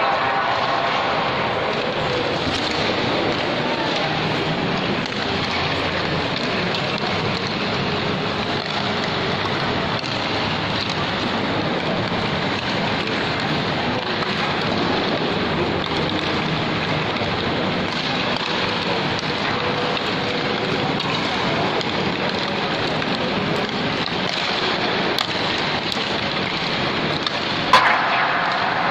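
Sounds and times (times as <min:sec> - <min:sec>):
indoor mall hubbub: 0:00.0 - 0:28.9.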